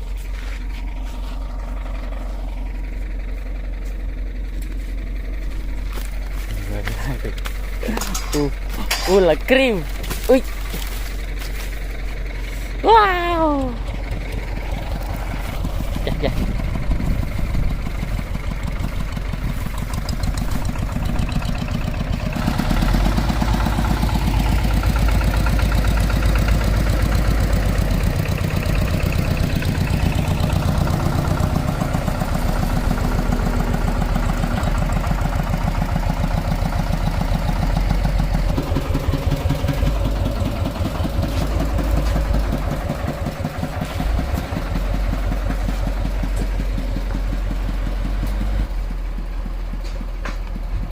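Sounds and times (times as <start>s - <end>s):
hand tractor engine running: 0.0s - 50.9s.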